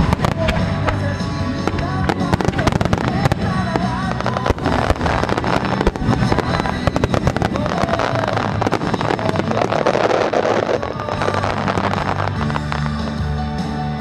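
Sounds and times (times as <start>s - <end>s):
firework booms and crackling: 0.0s - 13.4s.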